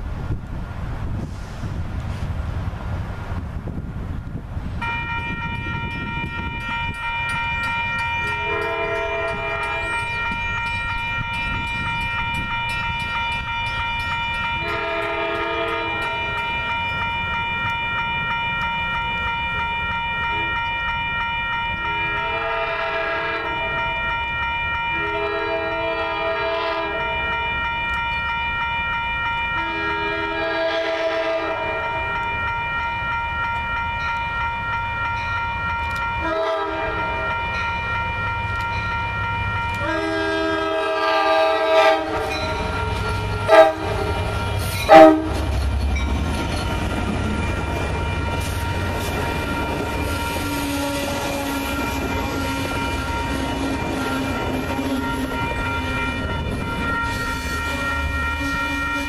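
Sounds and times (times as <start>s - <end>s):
locomotive air horn: 4.8s - 45.6s, 46.7s - 59.0s
crossing warning bell ringing: 4.8s - 59.0s.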